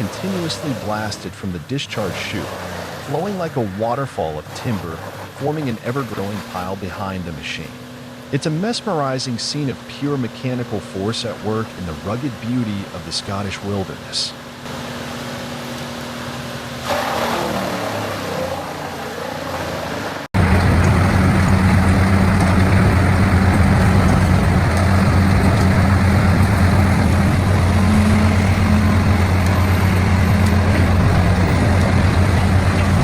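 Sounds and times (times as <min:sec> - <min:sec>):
diesel engine droning under load: 0:00.0 - 0:33.0.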